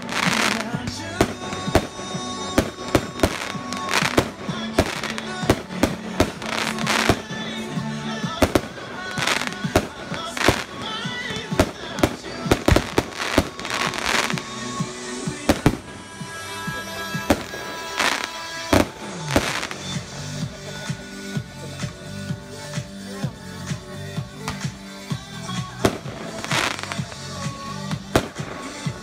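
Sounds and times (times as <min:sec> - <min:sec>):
firework crackle: 0:00.0 - 0:20.1, 0:25.8 - 0:29.0.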